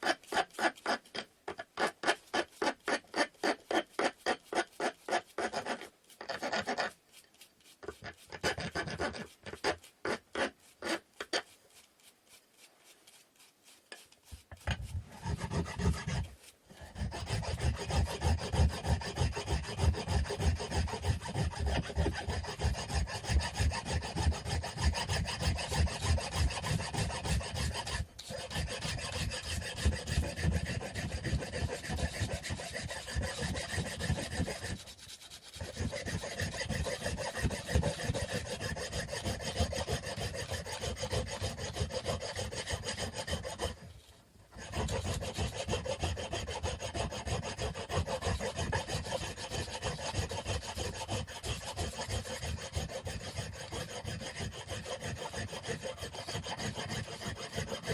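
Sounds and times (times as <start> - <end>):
wood sanding by hand: 0.0 - 1.2, 1.8 - 57.9.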